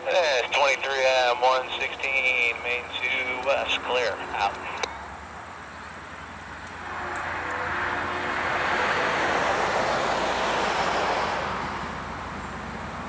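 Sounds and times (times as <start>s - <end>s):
vehicle tyre and road noise: 0.0s - 13.0s.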